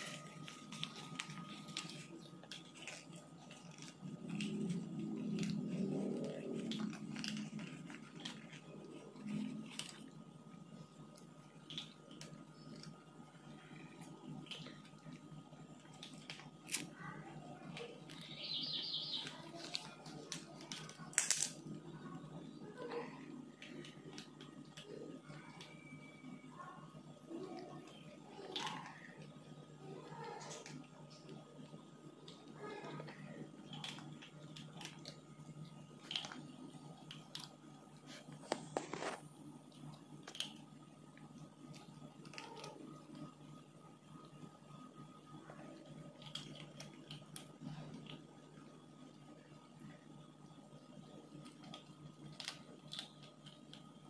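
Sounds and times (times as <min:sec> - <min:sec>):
kibble clicks on tiled floor: 0:00.0 - 0:22.1, 0:22.9 - 0:25.8, 0:29.9 - 0:43.4, 0:45.5 - 0:48.7, 0:51.0 - 0:54.0
cats crunching dry kibble: 0:00.0 - 0:54.0.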